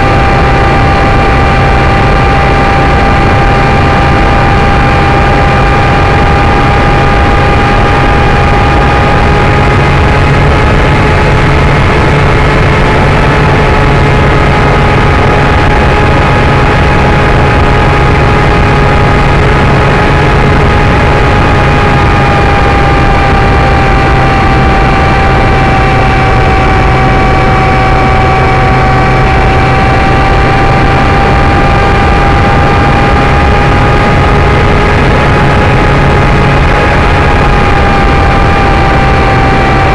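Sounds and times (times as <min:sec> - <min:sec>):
electric motor and propeller whine: 0:00.0 - 0:39.9
wind rush on microphone: 0:00.0 - 0:39.9.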